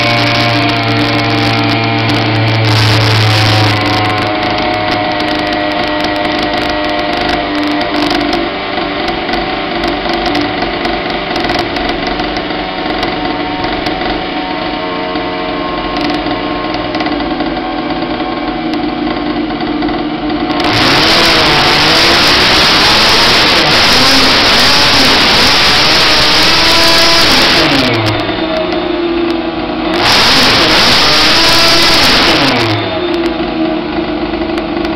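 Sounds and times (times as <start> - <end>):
engine revving up: 0.0 - 18.2, 20.4 - 34.9
small two-stroke engine running: 0.0 - 34.9.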